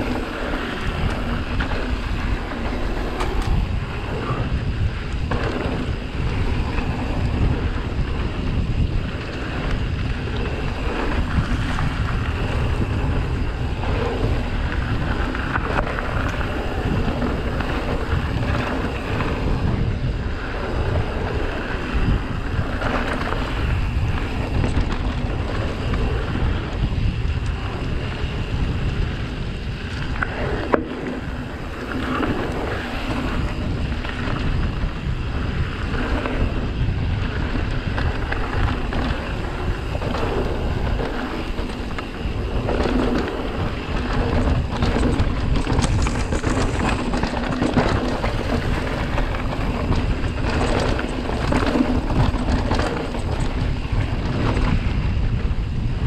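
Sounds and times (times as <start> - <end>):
bike rattling: 0.0 - 56.0
tyres rumbling on trail: 0.0 - 56.0
wind noise on microphone: 0.0 - 56.0.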